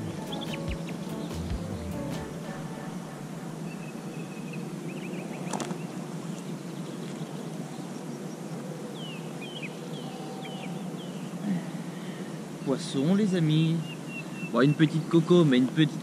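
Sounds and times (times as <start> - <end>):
bird chirping: 0.0 - 16.0
steady wind: 0.0 - 16.0.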